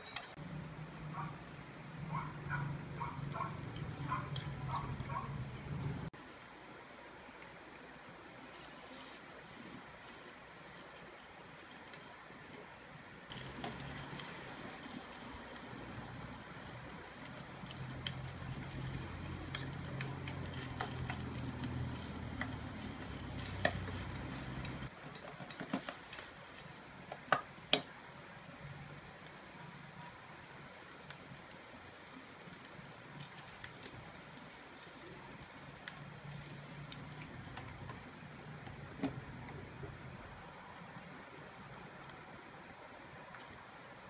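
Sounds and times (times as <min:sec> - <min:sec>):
meat and peppers sizzling in pot: 0:00.0 - 0:06.1, 0:08.5 - 0:39.4.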